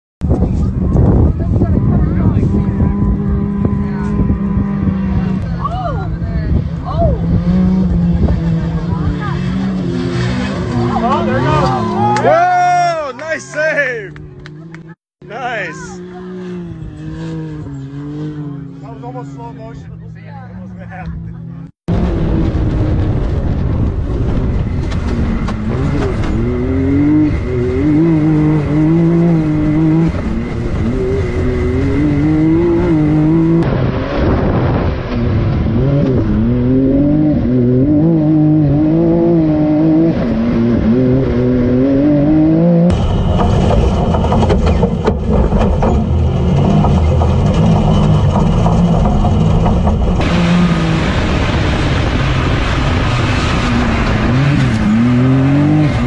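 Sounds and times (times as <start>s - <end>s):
off-road vehicle engines revving: 0.2s - 56.0s.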